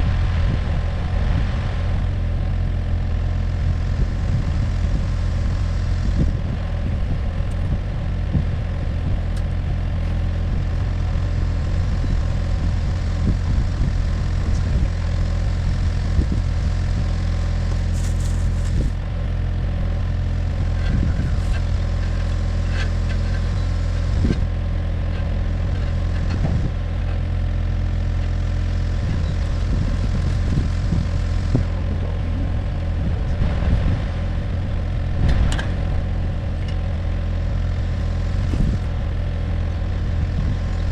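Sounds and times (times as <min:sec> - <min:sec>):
mini excavator diesel engine: 0:00.0 - 0:40.9.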